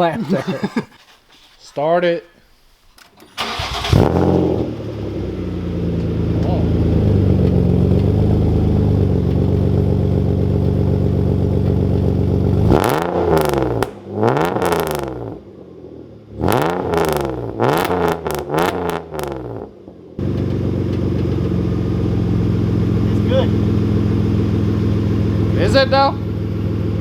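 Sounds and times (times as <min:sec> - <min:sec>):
car engine idling and revving: 0:03.4 - 0:27.0.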